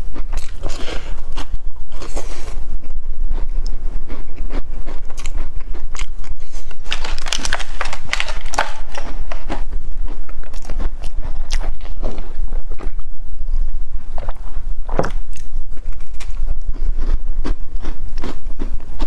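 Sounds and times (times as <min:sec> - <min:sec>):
chewing cookies: 0:00.0 - 0:19.0.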